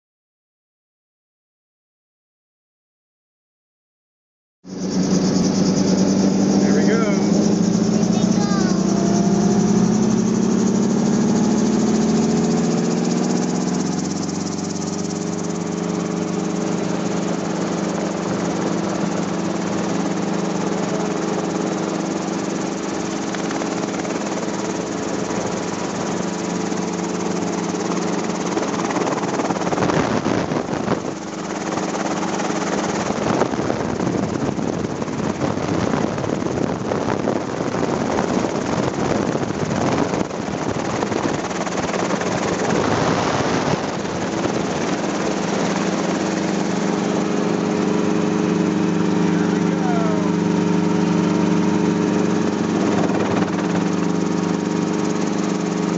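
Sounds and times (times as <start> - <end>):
helicopter engine and rotor: 4.7 - 55.9.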